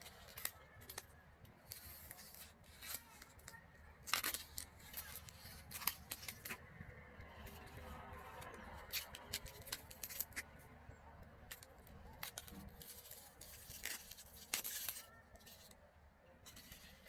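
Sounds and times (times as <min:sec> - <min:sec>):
crisp clicks and crunches: 0:00.0 - 0:06.6, 0:07.2 - 0:15.8.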